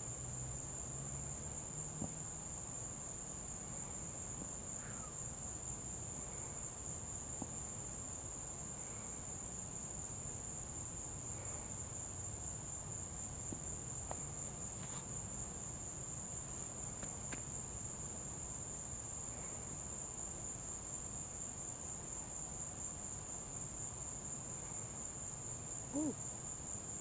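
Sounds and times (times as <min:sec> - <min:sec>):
insects trilling: 0:03.2 - 0:21.9, 0:23.5 - 0:27.0.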